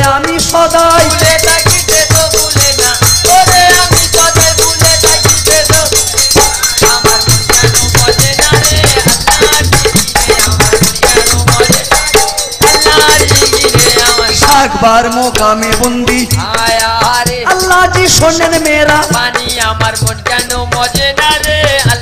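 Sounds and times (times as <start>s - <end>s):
shaken rattle percussion: 0.0s - 22.0s
steady drum beat: 0.0s - 22.0s.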